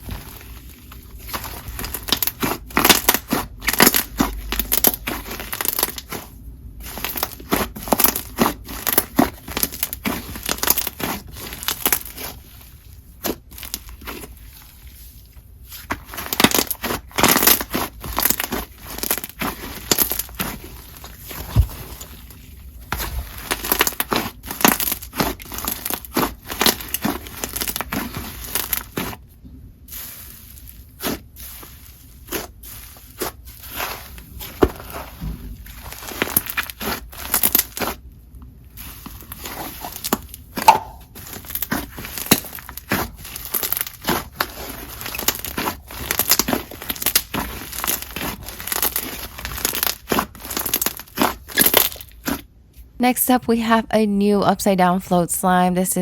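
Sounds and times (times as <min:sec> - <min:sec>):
slime crackling and crunching: 0:00.0 - 0:52.6.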